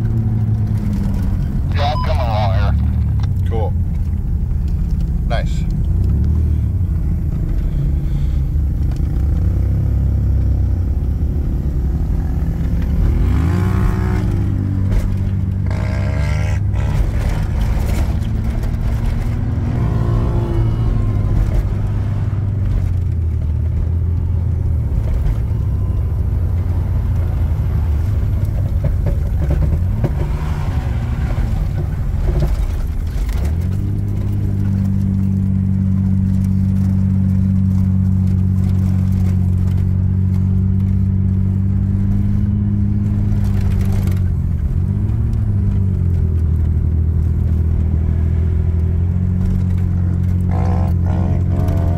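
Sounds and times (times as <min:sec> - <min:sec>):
off-road vehicle engine running: 0:00.0 - 0:51.9.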